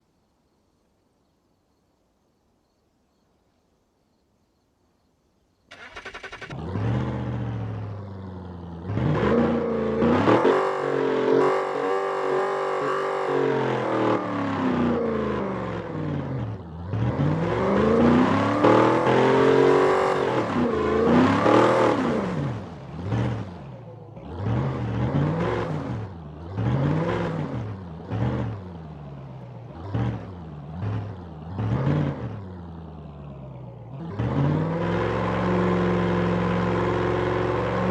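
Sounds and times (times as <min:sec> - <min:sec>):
car engine revving through exhaust: 0:06.3 - 0:37.9.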